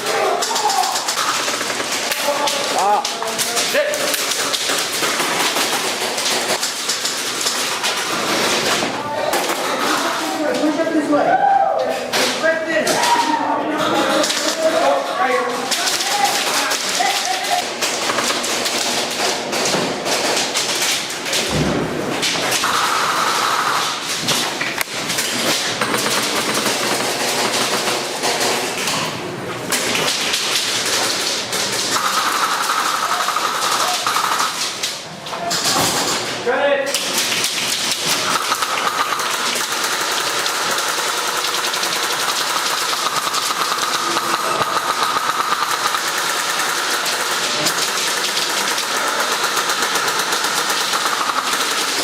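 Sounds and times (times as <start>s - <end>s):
airsoft gunfire: 0.0s - 10.0s, 15.7s - 21.5s, 22.2s - 24.2s, 24.9s - 29.1s, 29.7s - 35.0s, 37.0s - 52.0s
pellets striking hard surfaces: 0.0s - 10.1s, 15.7s - 34.8s, 37.0s - 52.0s.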